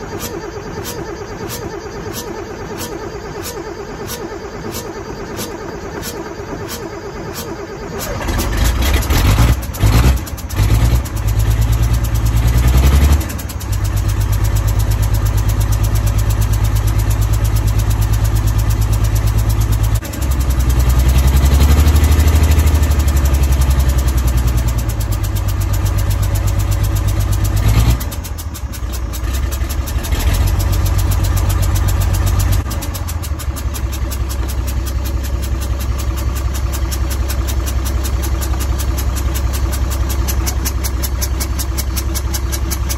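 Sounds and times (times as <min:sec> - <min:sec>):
truck engine sputtering and revving: 0:00.0 - 0:42.9.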